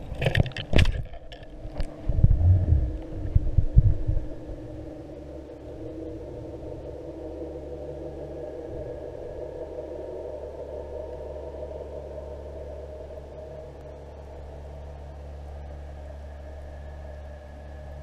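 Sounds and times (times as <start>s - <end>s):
low underwater hum: 0.0s - 18.0s.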